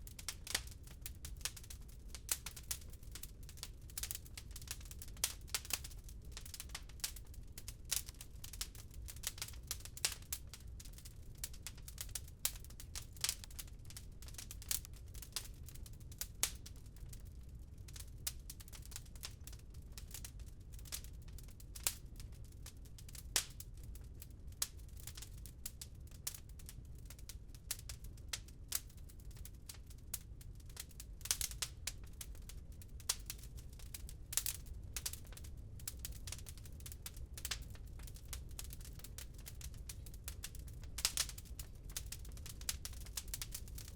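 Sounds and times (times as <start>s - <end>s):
fire rumbling: 0.0s - 43.9s
fire snapping and popping: 0.1s - 43.9s.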